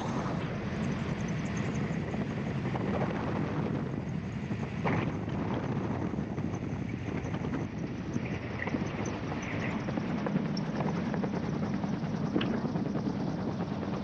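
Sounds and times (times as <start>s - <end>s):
aircraft engine and rotor: 0.0s - 14.0s.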